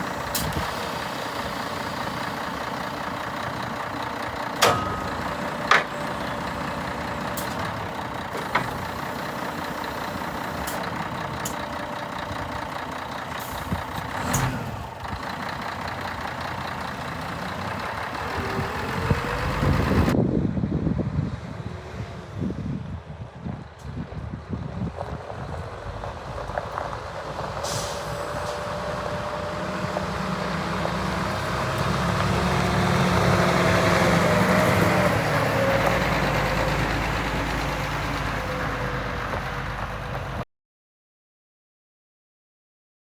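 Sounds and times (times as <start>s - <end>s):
diesel truck engine running: 0.0s - 40.4s.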